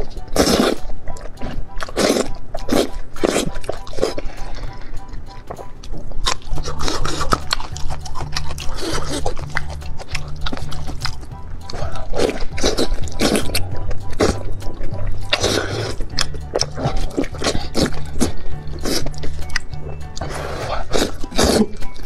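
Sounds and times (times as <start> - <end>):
background music with bass line: 0.0 - 22.0
wet slurping and chewing: 0.0 - 22.0.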